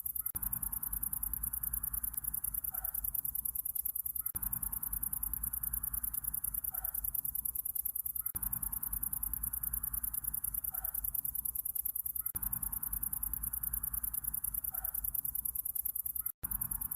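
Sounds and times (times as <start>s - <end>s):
insects trilling: 0.0s - 16.9s.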